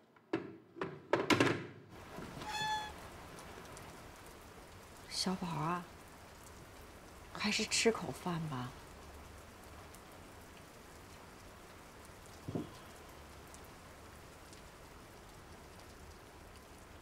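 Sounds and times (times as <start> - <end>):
faint steady rain: 0.0 - 0.4, 1.9 - 17.0.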